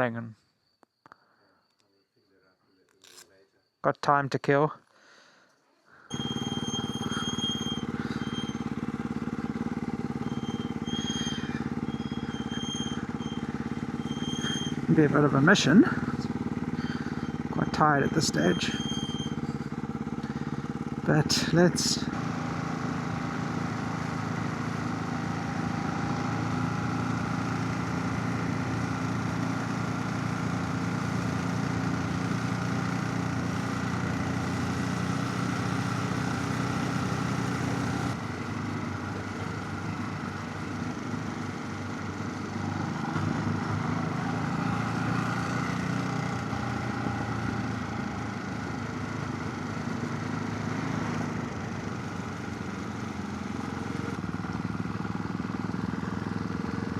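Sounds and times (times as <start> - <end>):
motorcycle engine running: 6.1 - 56.9.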